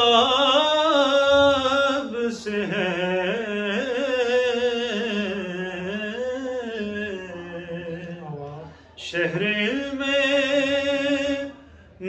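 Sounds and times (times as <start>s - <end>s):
man singing unaccompanied: 0.0s - 11.6s.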